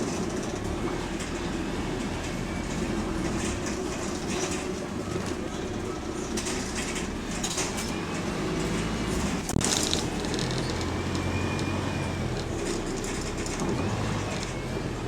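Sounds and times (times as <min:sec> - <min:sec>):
bus engine hum: 0:00.0 - 0:15.0
road and body noise: 0:00.0 - 0:15.0.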